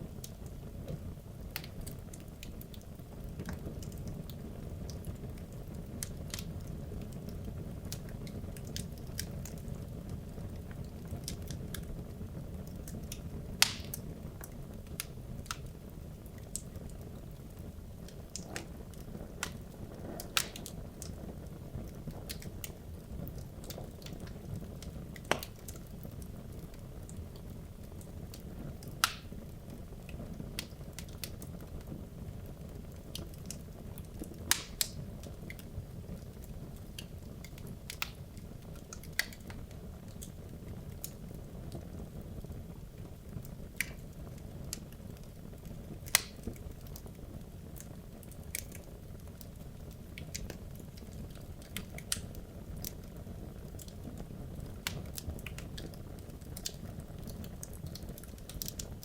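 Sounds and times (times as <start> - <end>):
fire crackling and popping: 0.0 - 59.0
fire roaring: 0.0 - 59.0.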